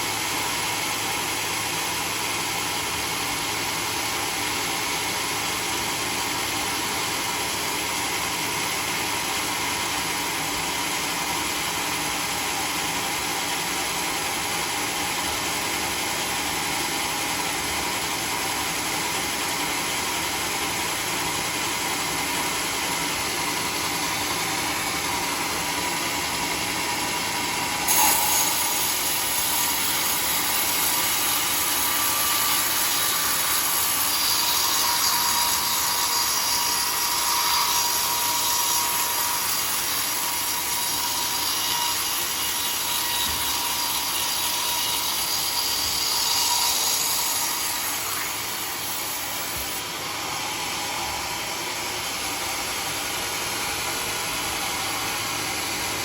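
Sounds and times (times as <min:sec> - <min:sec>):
bandsaw cutting log: 0:00.0 - 0:56.0
bandsaw running: 0:00.0 - 0:56.0.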